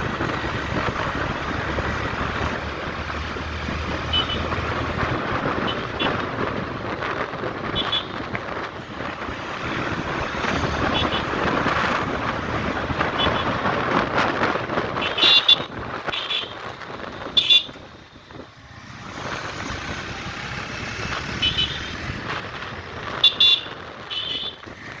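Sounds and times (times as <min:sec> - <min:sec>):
motorcycle riding: 0:00.0 - 0:25.0
wind noise: 0:00.0 - 0:25.0.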